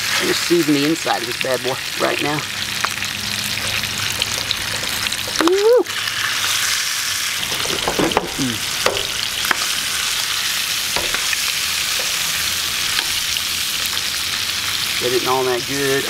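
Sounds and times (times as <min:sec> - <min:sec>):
fish sizzling in a pan: 0:00.0 - 0:16.0.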